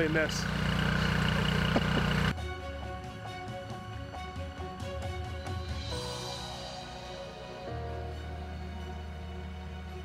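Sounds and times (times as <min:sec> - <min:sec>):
background music with bass line: 0:01.0 - 0:10.0.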